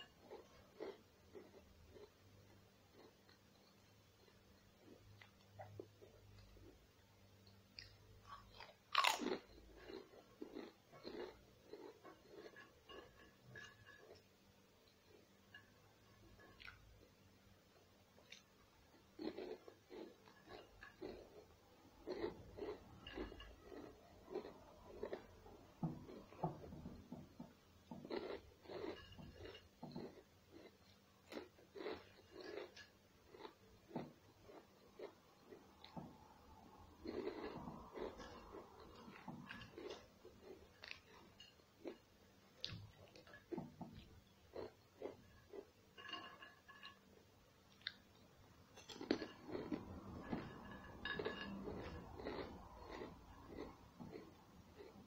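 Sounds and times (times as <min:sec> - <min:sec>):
person chewing: 0:00.0 - 0:17.2, 0:18.2 - 0:46.9, 0:47.7 - 0:48.2, 0:48.8 - 0:55.0.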